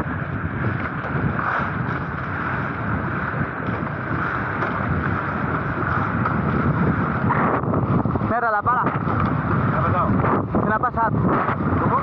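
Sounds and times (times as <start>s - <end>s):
water rushing past hulls: 0.0s - 12.0s
wind buffeting microphone: 0.0s - 12.0s.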